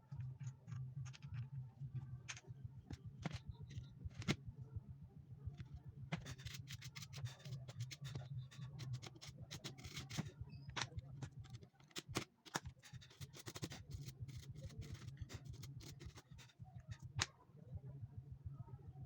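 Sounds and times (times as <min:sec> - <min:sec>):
clicks and scratching on keyboard: 0:00.0 - 0:01.5, 0:02.3 - 0:04.4, 0:05.6 - 0:17.3.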